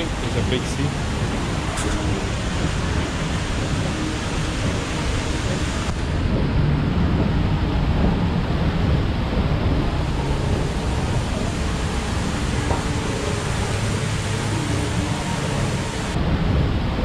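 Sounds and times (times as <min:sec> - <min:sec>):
fountain water falling: 0:00.0 - 0:17.0
wind buffeting microphone: 0:00.0 - 0:17.0.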